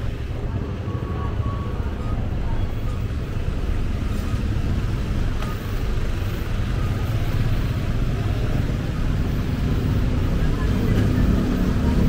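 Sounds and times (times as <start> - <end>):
traffic rumble on busy road: 0.0 - 12.0.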